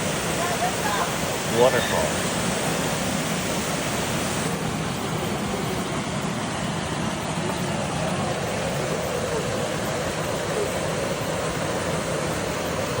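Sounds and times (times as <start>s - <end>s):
waterfall: 0.0s - 13.0s.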